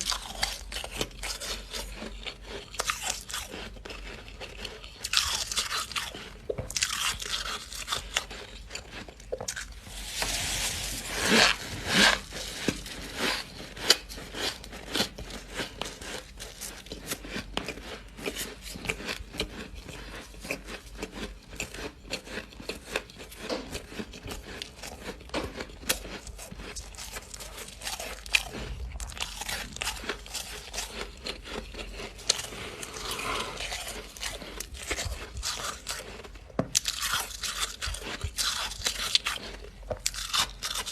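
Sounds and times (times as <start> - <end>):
crunchy frost chewing: 0.0 - 40.9.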